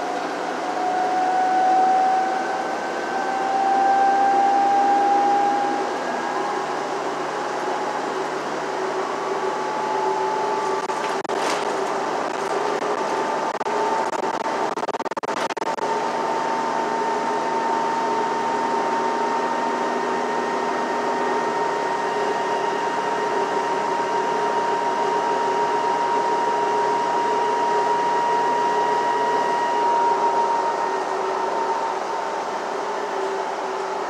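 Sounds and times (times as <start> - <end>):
bus engine and road noise: 0.0 - 34.0
constant high whine: 0.0 - 34.0.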